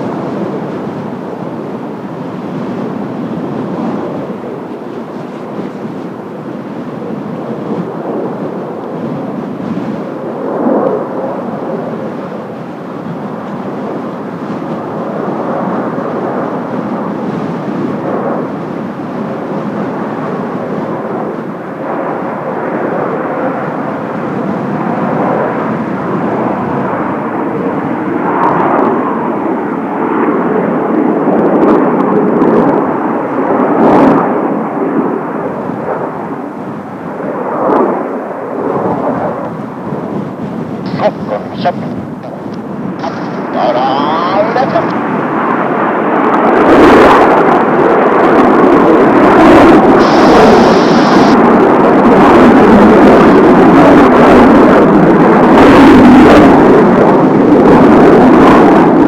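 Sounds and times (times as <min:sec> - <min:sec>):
jets flying over: 0:00.0 - 0:59.0.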